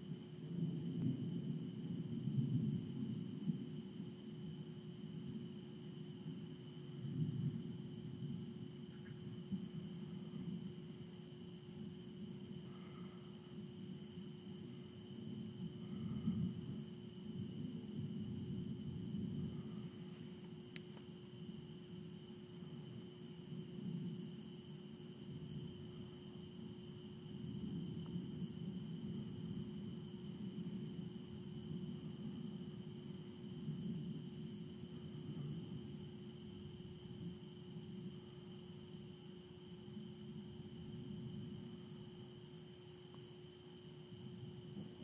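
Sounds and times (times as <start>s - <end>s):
night insects chirping: 0.0s - 45.0s.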